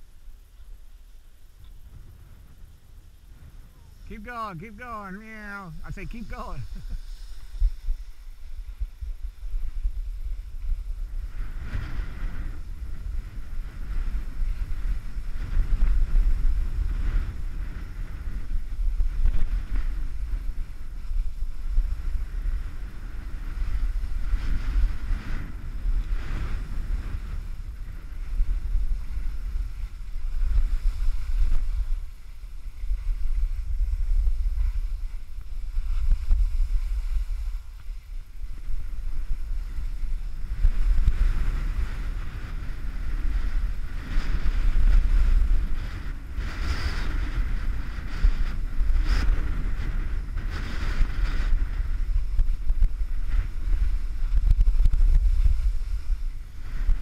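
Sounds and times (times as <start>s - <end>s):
wind buffeting microphone: 0.0s - 57.0s
skis scraping snow: 0.6s - 57.0s.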